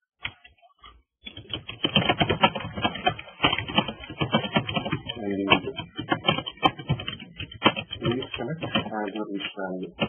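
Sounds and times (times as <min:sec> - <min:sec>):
computer keyboard typing: 0:01.3 - 0:10.0.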